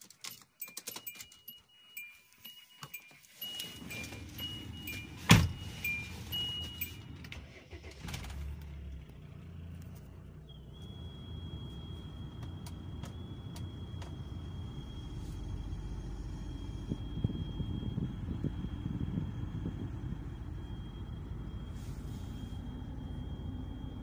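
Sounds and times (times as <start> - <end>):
two-tone warning chime: 0.2 - 7.4, 10.4 - 24.0
diesel engine starting and idling: 3.3 - 24.0.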